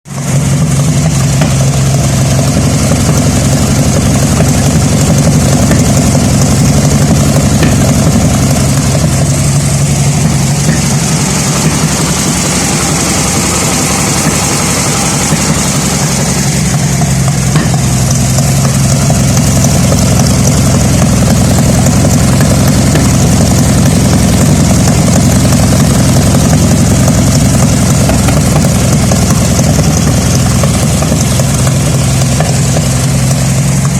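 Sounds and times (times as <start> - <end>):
car engine idling and misfiring: 0.1 - 33.9.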